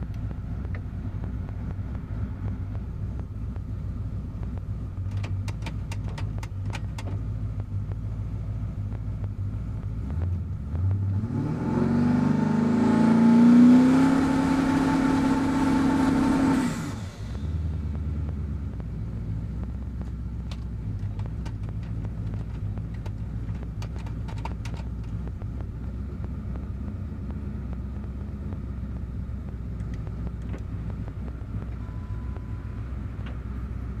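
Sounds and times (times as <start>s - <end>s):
car engine idling: 0.0s - 11.2s, 14.9s - 34.0s.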